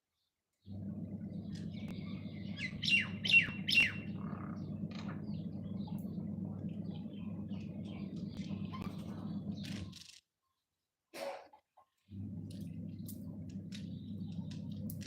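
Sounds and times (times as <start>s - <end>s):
small birds chirping: 0.1s - 10.7s, 12.0s - 15.0s
steady low hum: 0.7s - 10.0s, 12.1s - 15.0s.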